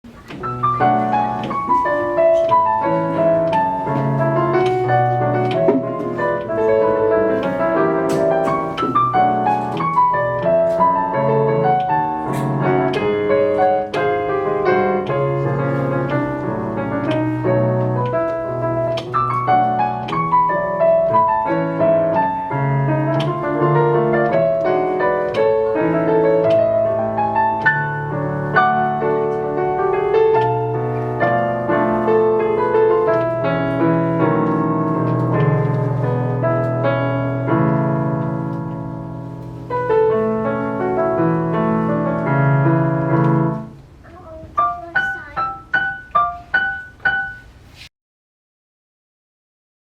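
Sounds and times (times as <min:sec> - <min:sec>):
solo piano waltz: 0:00.1 - 0:47.9.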